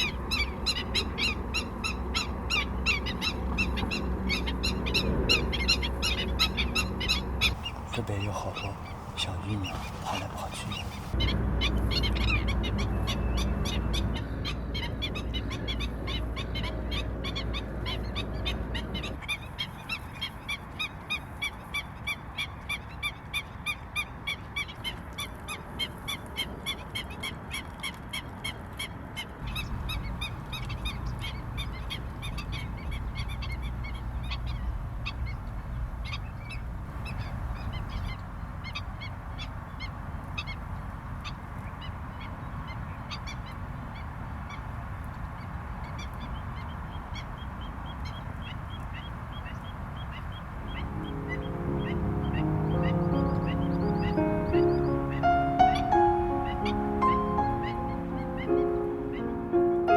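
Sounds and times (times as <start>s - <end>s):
low background rumble: 0.0s - 19.9s, 29.3s - 59.9s
wetland birds calling: 0.0s - 27.1s, 29.3s - 59.9s.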